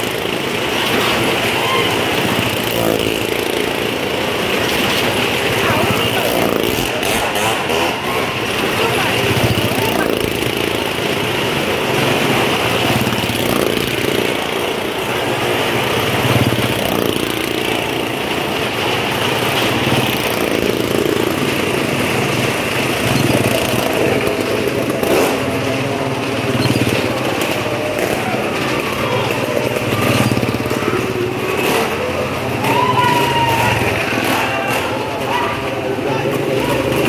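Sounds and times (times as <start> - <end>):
car engine: 0.0 - 37.0
motorcycle engine: 0.0 - 37.0.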